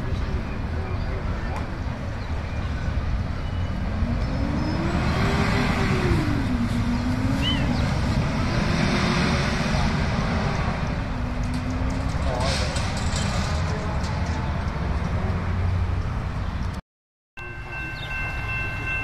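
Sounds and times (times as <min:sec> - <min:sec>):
passing vehicle rumble: 0:00.0 - 0:16.8.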